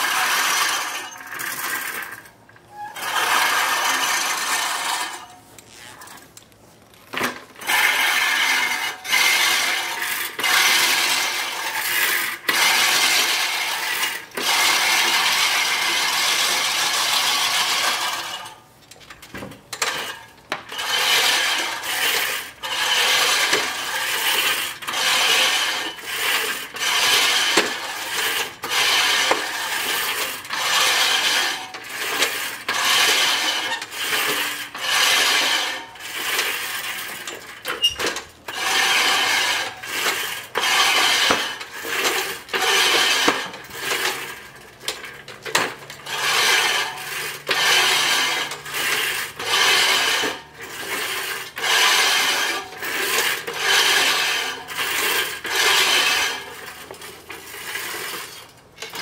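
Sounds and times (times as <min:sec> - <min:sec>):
ratcheting clatter of mower: 0:00.0 - 0:59.0
reel mower whirring and snipping: 0:00.0 - 0:59.0.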